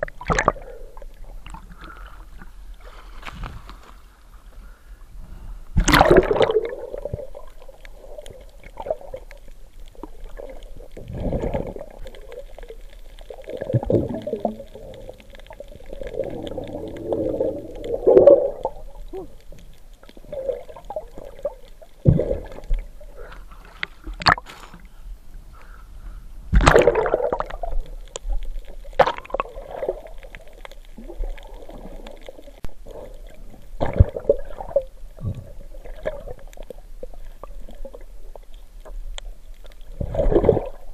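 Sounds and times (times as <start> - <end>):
underwater gurgling and sloshing: 0.0 - 40.9.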